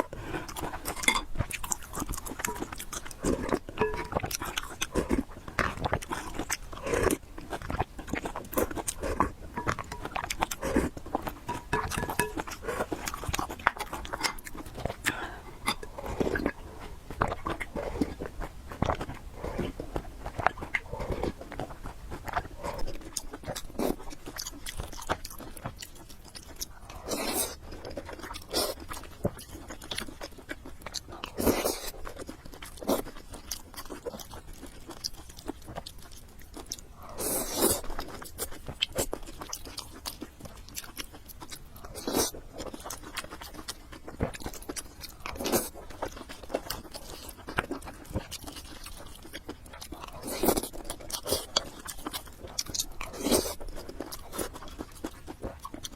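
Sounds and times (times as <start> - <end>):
person chewing and biting food: 0.0 - 55.9.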